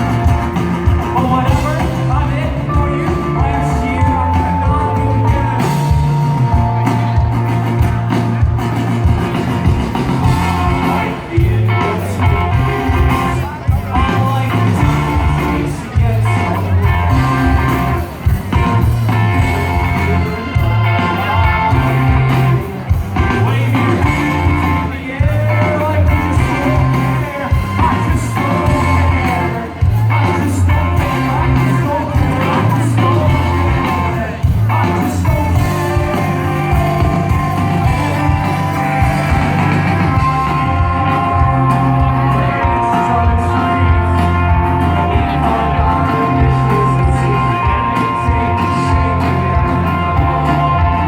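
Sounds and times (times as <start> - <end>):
rock band playing live: 0.0 - 51.0
person singing: 1.0 - 7.9, 9.9 - 51.0.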